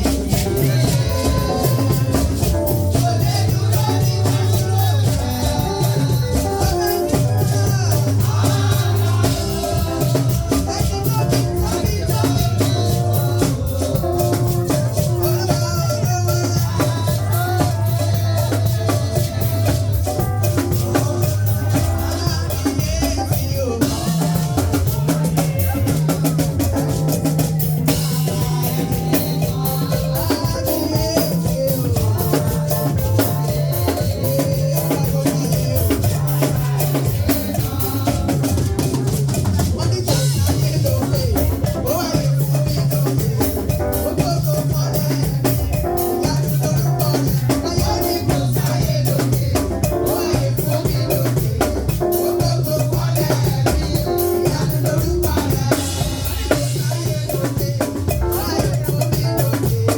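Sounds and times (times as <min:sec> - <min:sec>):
music with drum kit and bass: 0:00.0 - 0:59.9.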